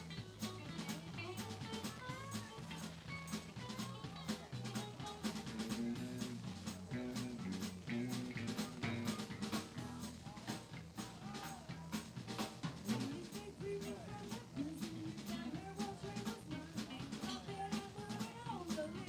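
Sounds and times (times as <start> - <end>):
bass guitar: 0.0 - 19.0
drum kit beat: 0.0 - 19.0
live band playing: 0.0 - 19.0.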